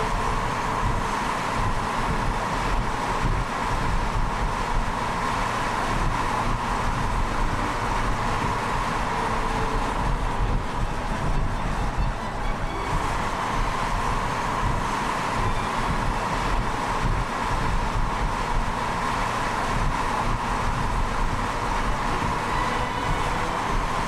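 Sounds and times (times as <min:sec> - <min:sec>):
car engine rumble: 0:00.0 - 0:24.0
road noise: 0:00.0 - 0:24.0
wind noise: 0:00.0 - 0:24.0.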